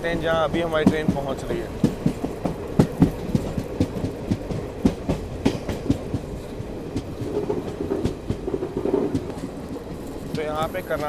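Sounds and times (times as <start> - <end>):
train rumble: 0.0 - 11.0
train wheels clacking on track: 0.0 - 11.0.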